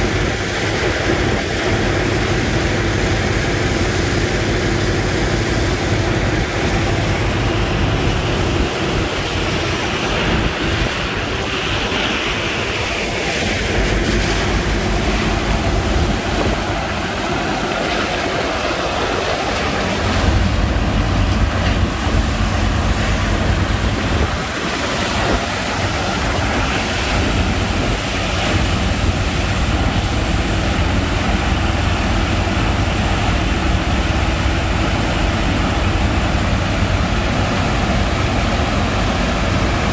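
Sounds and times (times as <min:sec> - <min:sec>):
pump engine hum: 0:00.0 - 0:39.9
rush of water and sand slurry: 0:00.0 - 0:39.9
wind on microphone: 0:00.0 - 0:39.9.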